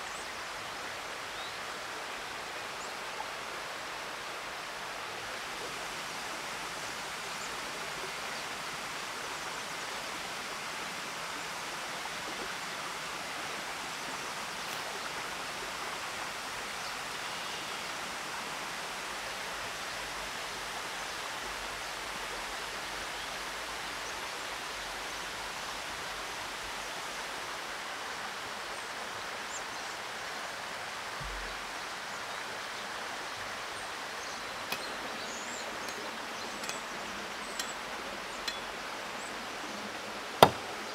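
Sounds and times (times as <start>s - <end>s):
rushing forest ambience: 0.0s - 40.9s.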